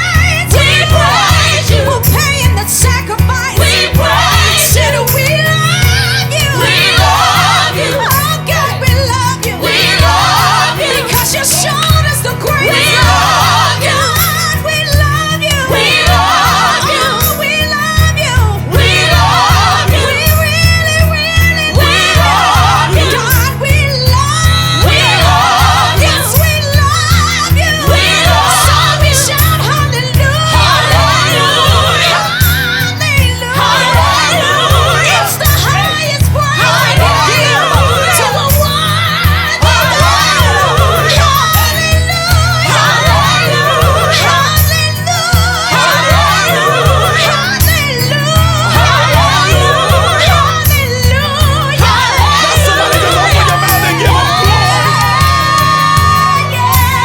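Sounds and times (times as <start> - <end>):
gospel singing: 0.0 - 57.0
instrumental backing with beat: 0.0 - 57.0.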